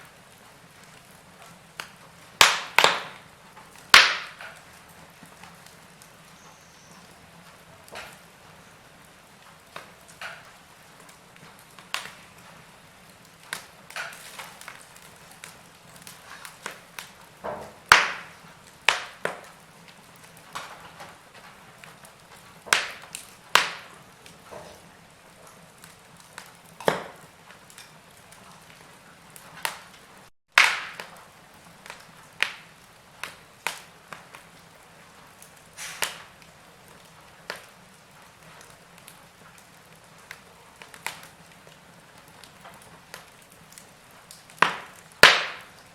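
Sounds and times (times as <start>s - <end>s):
faint steady hiss: 0.0s - 45.9s
wood fire crackling and popping: 0.0s - 45.9s.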